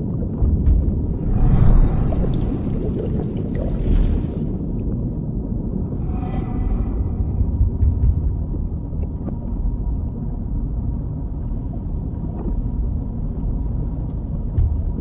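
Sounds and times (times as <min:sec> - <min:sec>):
deep underwater rumble: 0:00.0 - 0:15.0.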